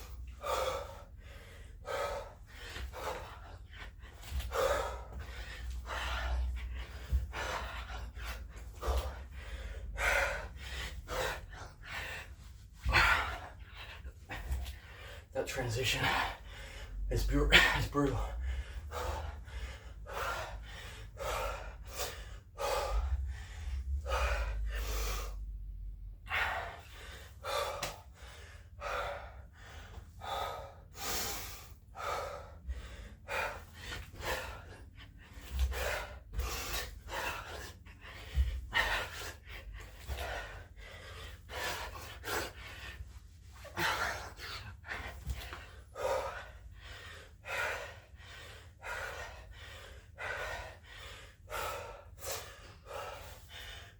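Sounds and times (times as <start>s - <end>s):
man breathing hard and fast: 0.0s - 53.9s.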